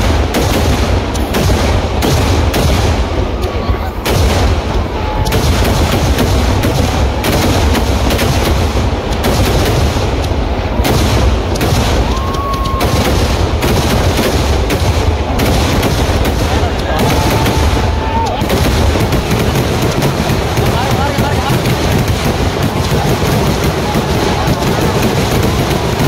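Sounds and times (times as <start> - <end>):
firecracker bangs: 0.0 - 26.0.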